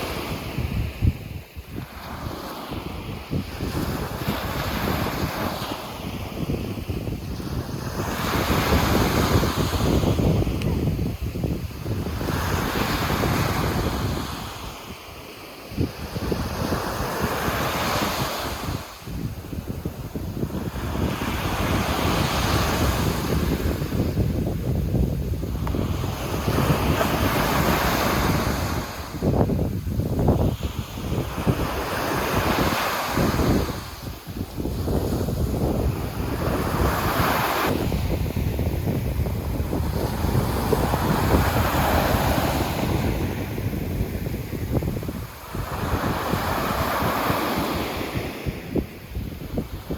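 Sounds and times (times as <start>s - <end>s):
waves washing onto shore: 0.0s - 49.9s
wind buffeting microphone: 0.0s - 49.9s
sea surf breaking: 1.8s - 49.9s.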